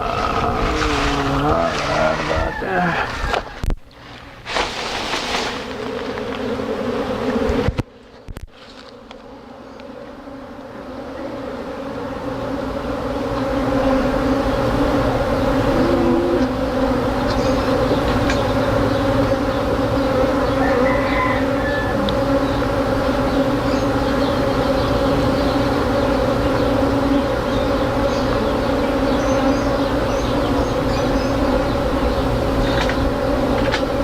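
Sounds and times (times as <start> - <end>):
bee swarm buzzing: 0.0 - 34.0.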